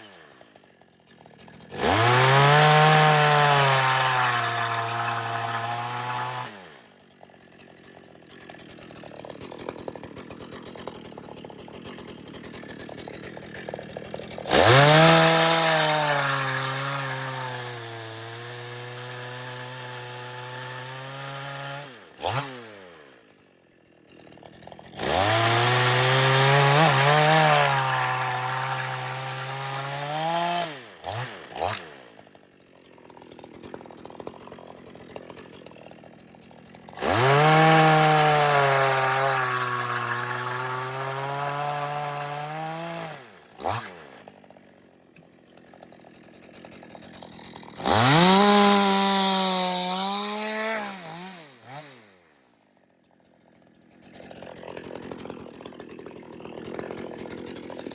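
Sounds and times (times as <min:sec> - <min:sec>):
chainsaw cutting wood: 0:00.0 - 0:57.9
chainsaw idling: 0:00.0 - 0:57.9.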